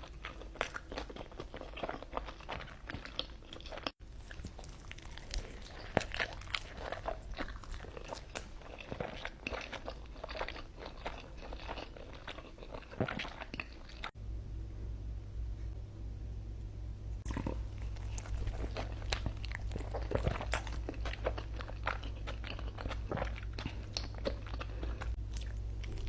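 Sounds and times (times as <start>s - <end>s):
person crunching food: 0.0s - 14.1s, 17.3s - 26.0s.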